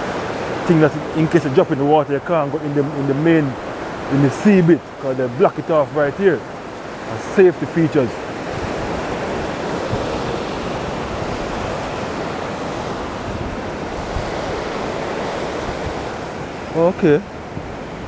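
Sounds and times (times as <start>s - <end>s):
surf roaring: 0.0s - 18.0s.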